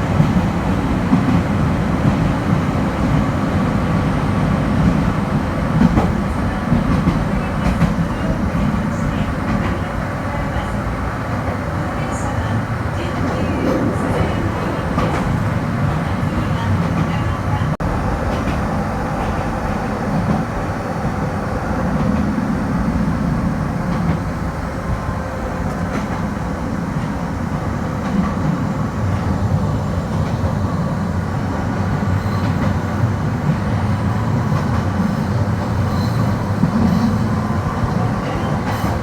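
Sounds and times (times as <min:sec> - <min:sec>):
electric train rumbling on track: 0:00.0 - 0:39.0.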